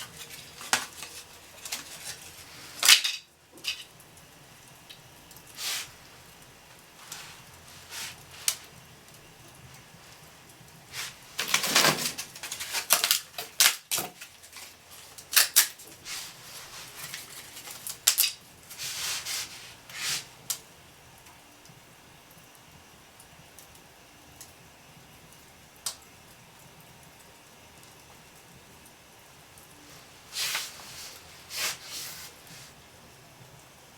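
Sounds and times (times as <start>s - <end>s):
wood crackling in fireplace: 0.0s - 33.9s.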